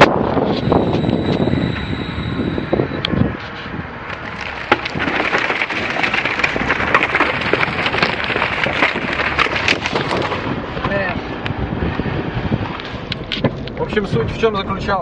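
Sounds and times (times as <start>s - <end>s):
wood cracking under tyres: 0.1s - 12.0s, 12.7s - 14.2s.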